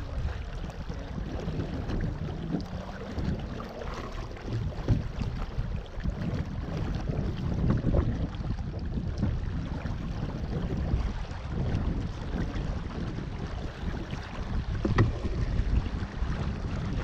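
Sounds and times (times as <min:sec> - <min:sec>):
water washing along hull: 0:00.0 - 0:17.0
wind buffeting microphone: 0:00.0 - 0:17.0.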